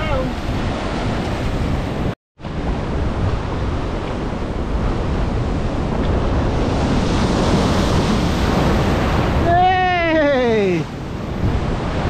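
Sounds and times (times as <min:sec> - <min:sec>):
ocean waves breaking: 0:00.0 - 0:12.0
wind on microphone: 0:00.0 - 0:12.0.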